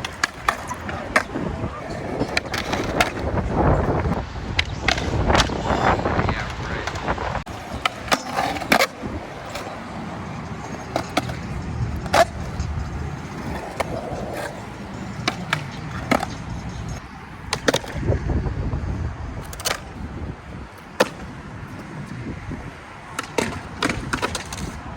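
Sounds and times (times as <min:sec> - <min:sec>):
skateboards popping and landing: 0:00.0 - 0:18.1, 0:19.3 - 0:24.9
skateboard wheels rolling: 0:00.0 - 0:24.9.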